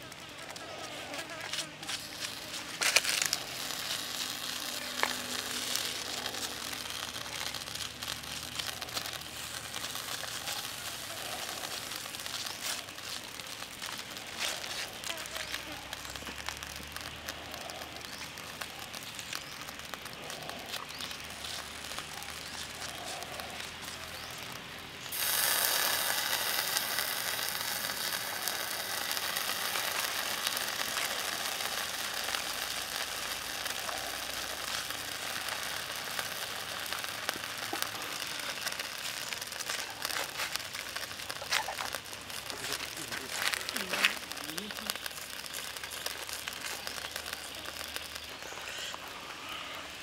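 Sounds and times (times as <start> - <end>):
faint crackling of embers: 0.0 - 50.0
sizzling hiss of basting: 0.0 - 50.0.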